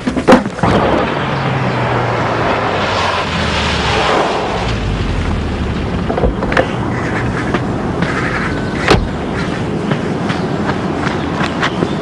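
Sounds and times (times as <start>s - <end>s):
vehicle rumble: 0.0s - 12.0s
low hum: 0.6s - 10.9s.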